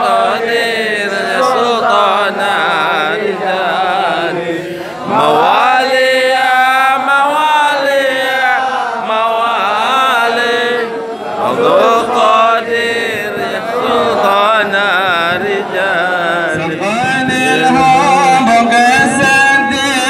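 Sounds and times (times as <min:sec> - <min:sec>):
men chanting devotional invocation: 0:00.0 - 0:20.0.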